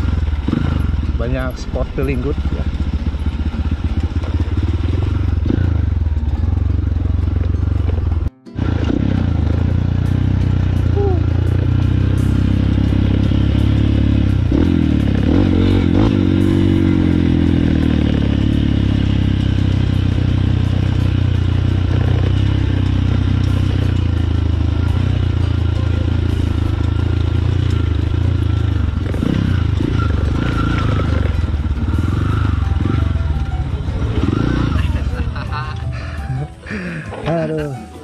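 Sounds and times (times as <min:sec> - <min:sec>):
motorcycle engine revving: 0:00.0 - 0:37.7.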